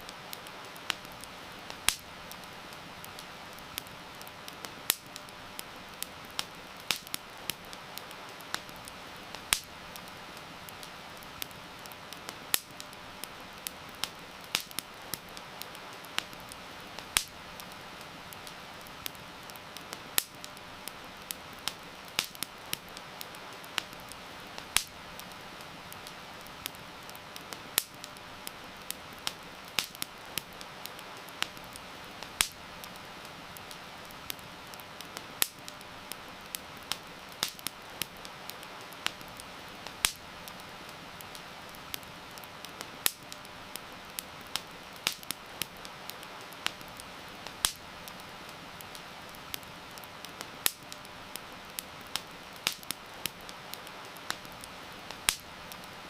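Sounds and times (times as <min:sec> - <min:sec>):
campfire crackling and popping: 0:00.0 - 0:56.0
heavy rain hiss: 0:00.0 - 0:56.0.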